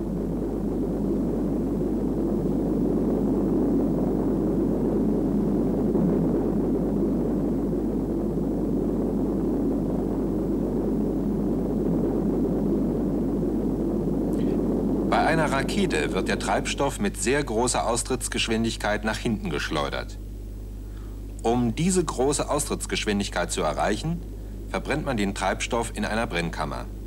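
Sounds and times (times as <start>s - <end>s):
rocket engines roaring: 0.0s - 20.1s, 21.4s - 27.0s.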